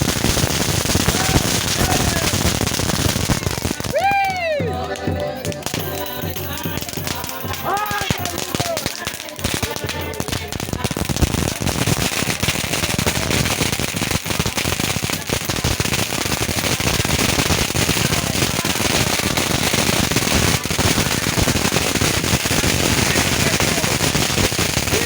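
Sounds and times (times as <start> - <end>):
firecrackers cracking: 0.0 - 25.0.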